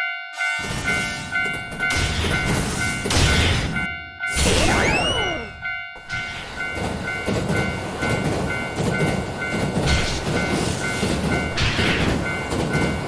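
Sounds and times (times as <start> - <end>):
level-crossing warning bell: 0.0 - 13.0
passing train rumble and clatter: 0.4 - 4.4, 5.5 - 13.0.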